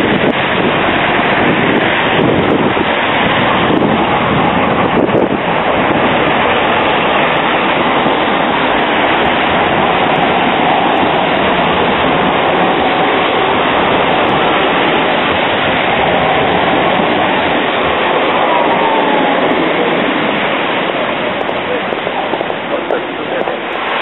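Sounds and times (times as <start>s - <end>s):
tram wheels rushing on rails: 0.0s - 24.0s.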